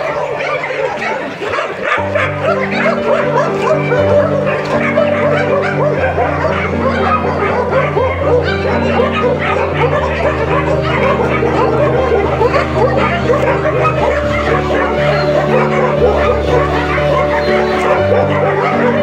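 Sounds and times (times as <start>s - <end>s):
many dogs barking and yelping: 0.0s - 19.0s
slow held chords music: 2.0s - 19.0s.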